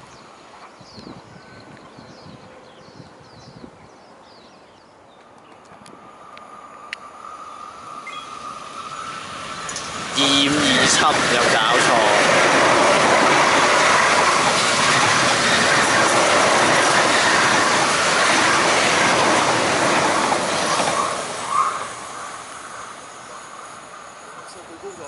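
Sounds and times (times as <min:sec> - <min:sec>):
electric train passing at speed: 0:00.0 - 0:25.0.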